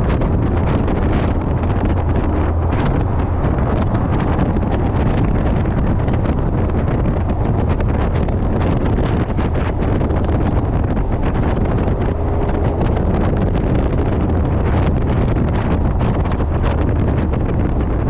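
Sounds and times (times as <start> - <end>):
motorcycle exhaust drone: 0.0 - 18.0
wind buffeting microphone: 0.0 - 18.0.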